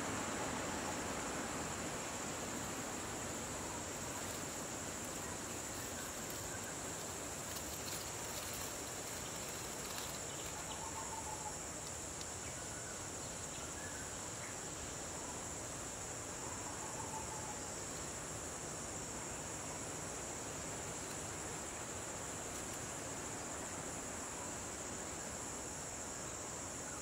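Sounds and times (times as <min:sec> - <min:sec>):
insect chorus trilling: 0:00.0 - 0:27.0
low even hiss: 0:00.0 - 0:27.0.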